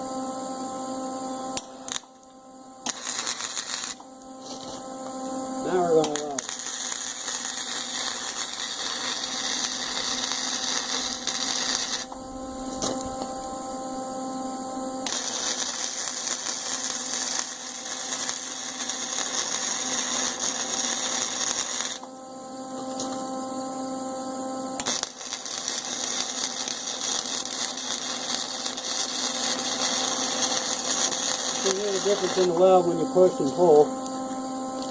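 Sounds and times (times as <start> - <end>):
arc welding crackle and hiss: 0.0 - 34.9
steady hum: 0.0 - 34.9.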